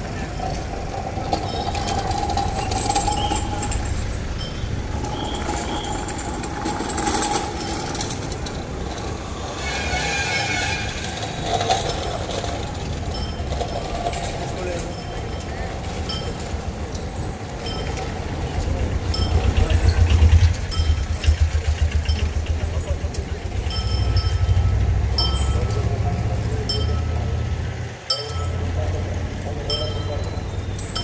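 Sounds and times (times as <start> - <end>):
constant hum: 0.0 - 31.0
traffic rumble: 0.0 - 31.0.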